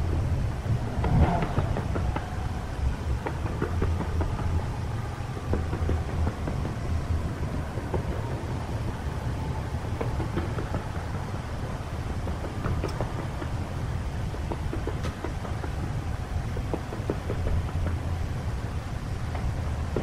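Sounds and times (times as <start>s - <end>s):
fireworks crackling and popping: 0.2s - 20.0s.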